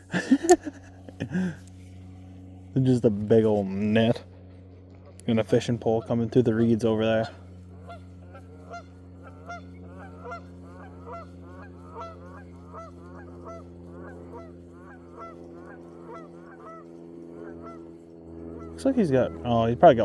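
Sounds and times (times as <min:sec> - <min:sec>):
geese honking: 0:00.0 - 0:20.0
steady low hum: 0:00.0 - 0:20.0.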